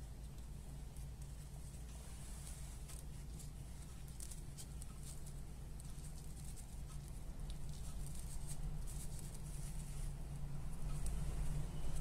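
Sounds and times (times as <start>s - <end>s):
grape leaves rustling: 0.0s - 12.0s.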